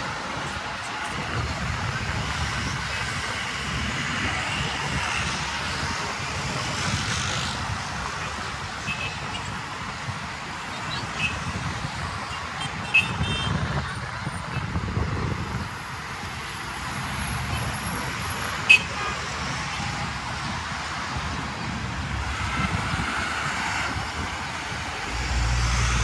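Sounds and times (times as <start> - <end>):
cars passing on busy road: 0.0 - 26.0.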